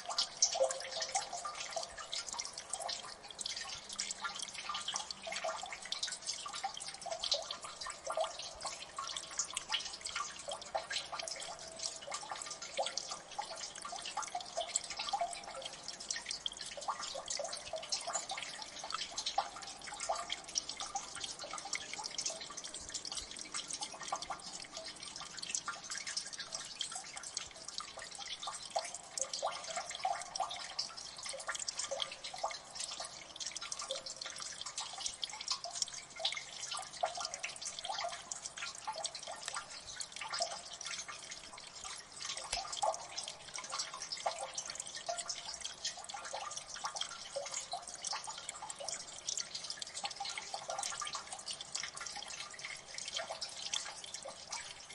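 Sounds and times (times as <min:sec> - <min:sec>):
water dripping: 0:00.0 - 0:54.9.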